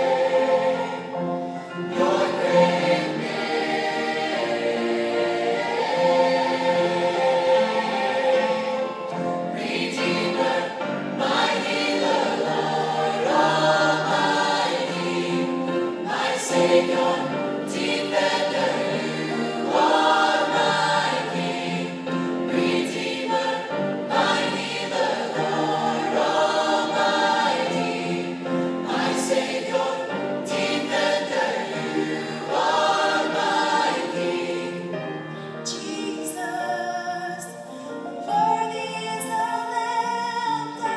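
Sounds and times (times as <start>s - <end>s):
choir singing gospel song: 0.0s - 36.7s.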